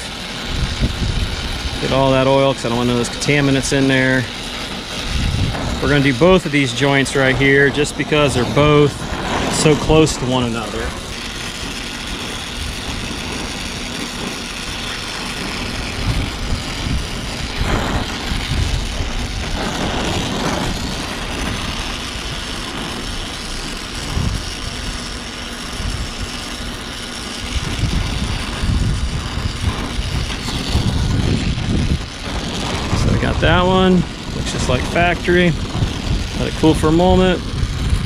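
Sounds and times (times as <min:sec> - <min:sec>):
steady low rumble: 0:00.0 - 0:38.0
torch flame hissing: 0:00.0 - 0:38.0.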